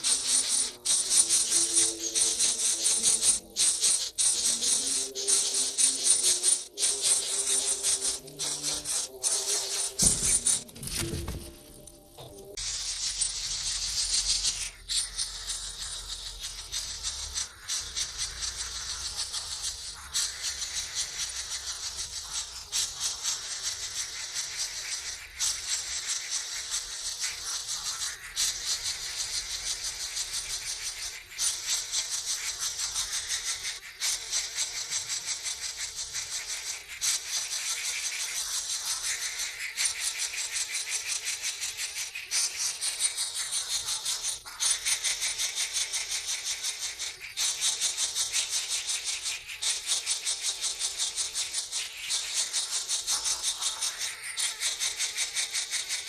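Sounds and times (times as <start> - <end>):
nestling birds begging chatter: 0.0 - 56.0.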